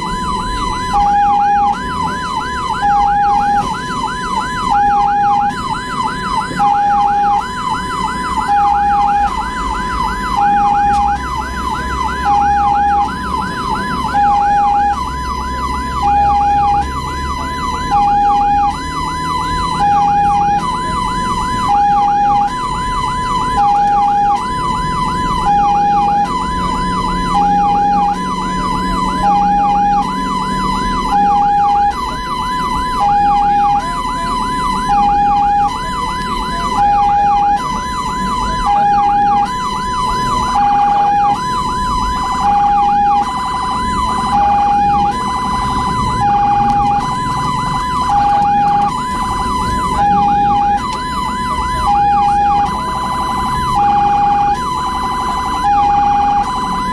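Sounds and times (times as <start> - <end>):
road and engine rumble: 0.0 - 56.9
siren yelp tone: 0.0 - 56.9
two-tone ambulance siren: 0.0 - 56.9.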